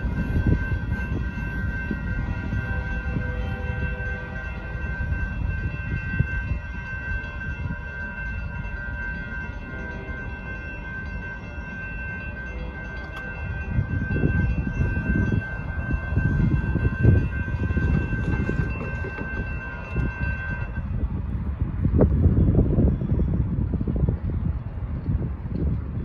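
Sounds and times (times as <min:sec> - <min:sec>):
railroad crossing bell ringing: 0:00.0 - 0:24.5.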